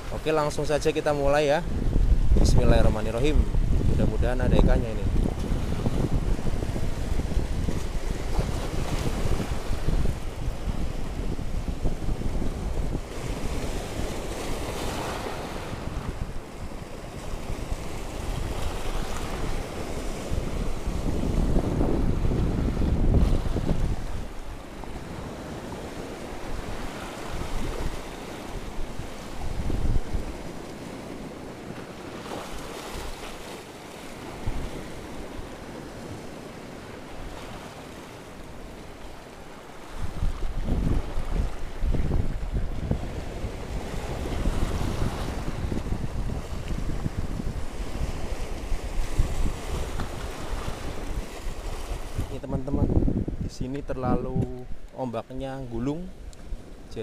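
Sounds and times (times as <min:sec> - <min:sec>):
sea waves breaking on rocks: 0:00.0 - 0:53.4
wind rumbling on microphone: 0:00.0 - 0:57.0.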